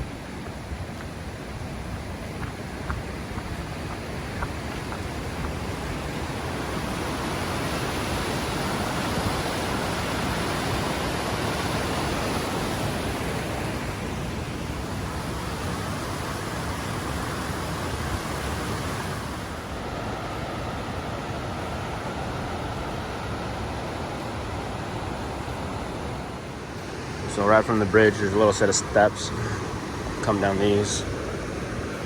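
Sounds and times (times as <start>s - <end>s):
creek water cascading: 0.0s - 32.0s.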